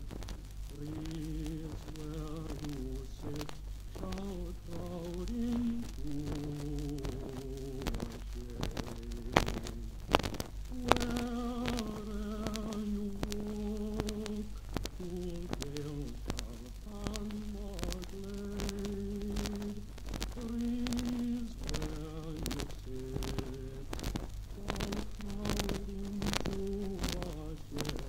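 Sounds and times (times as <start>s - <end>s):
record surface crackle and clicks: 0.0s - 28.0s
slow tune of held notes: 0.7s - 24.0s.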